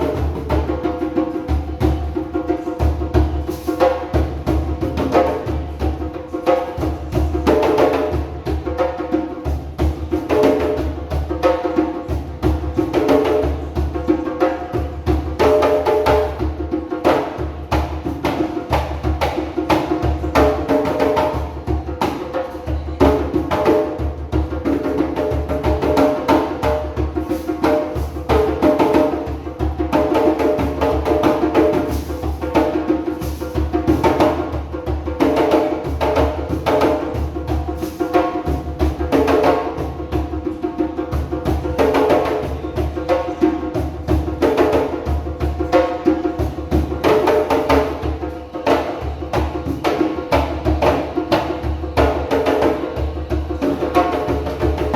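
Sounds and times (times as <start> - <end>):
djembe drums played by hand: 0.0 - 54.9.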